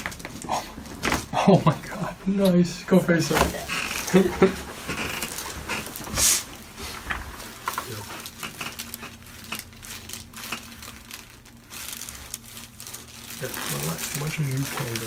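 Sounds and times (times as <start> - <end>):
faint steady hum: 0.0 - 15.0
rustling on treatment table: 0.0 - 15.0.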